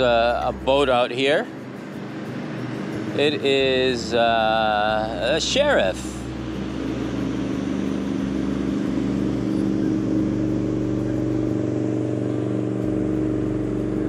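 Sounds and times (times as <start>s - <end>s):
motorboat engine drone: 0.0s - 14.0s.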